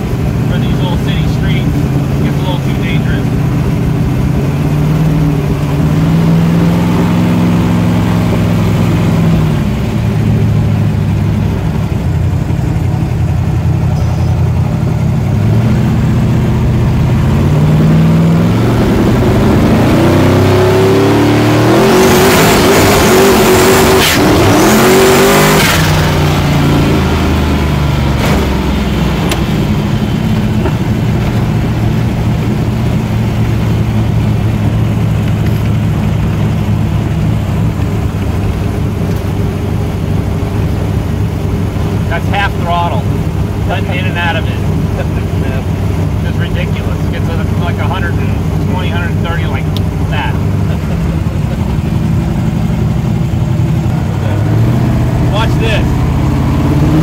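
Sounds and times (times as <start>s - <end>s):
car engine accelerating from cabin: 0.0s - 57.0s.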